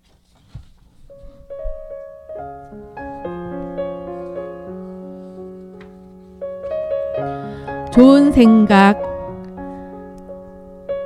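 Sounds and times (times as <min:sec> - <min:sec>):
gentle piano music: 0:00.7 - 0:11.0.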